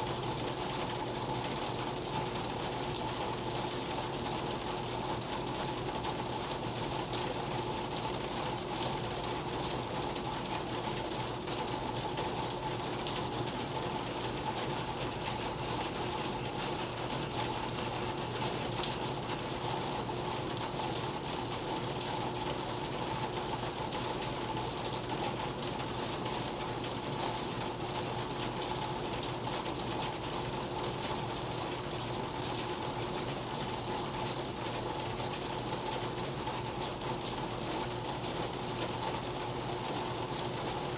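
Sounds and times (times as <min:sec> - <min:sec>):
raindrops pattering: 0:00.0 - 0:40.9.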